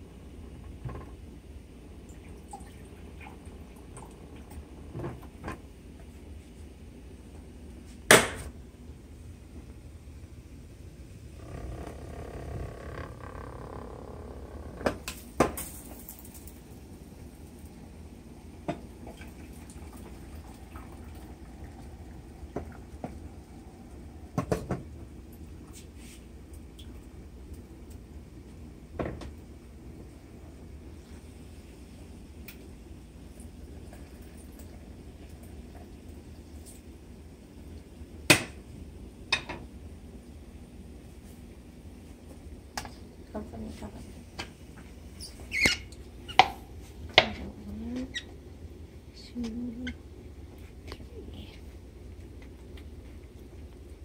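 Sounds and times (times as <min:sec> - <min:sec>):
water boiling in a pot: 0:00.0 - 0:11.4, 0:14.8 - 0:54.0.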